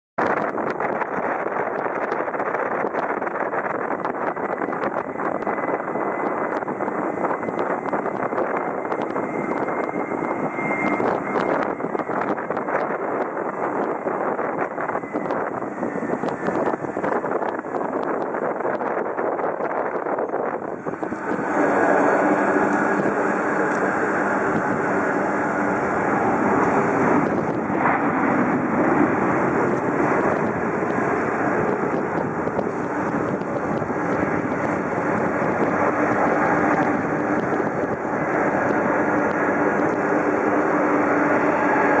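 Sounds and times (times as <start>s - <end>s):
jet engines roaring: 0.2s - 42.0s.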